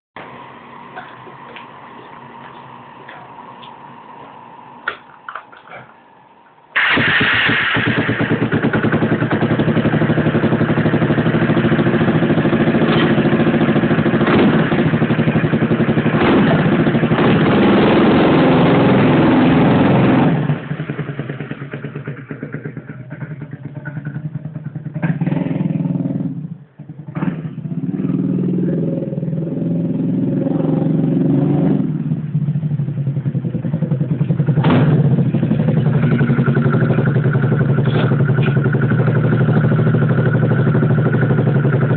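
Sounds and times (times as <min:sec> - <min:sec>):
scooter engine running: 0:06.8 - 0:41.9.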